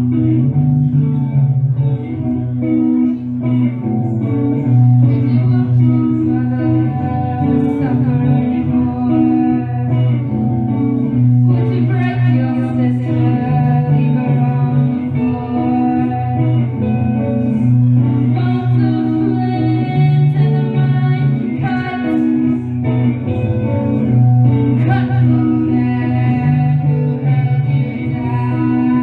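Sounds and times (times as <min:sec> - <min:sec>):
person singing: 0:00.0 - 0:29.0
repeating guitar melody: 0:00.0 - 0:29.0.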